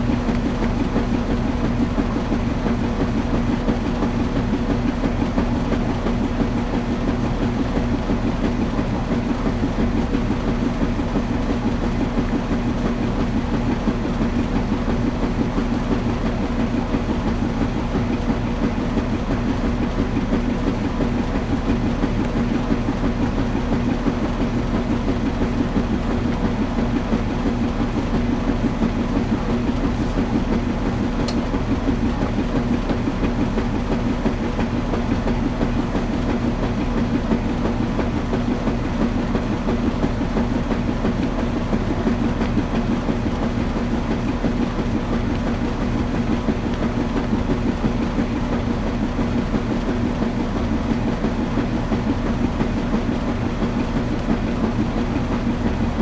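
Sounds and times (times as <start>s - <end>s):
washing machine churning: 0.0s - 56.0s.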